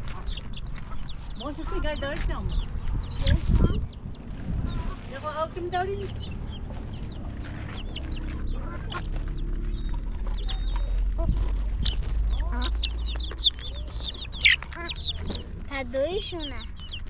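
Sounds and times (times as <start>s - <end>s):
birds chirping: 0.0s - 17.0s
low steady rumble: 0.0s - 17.0s.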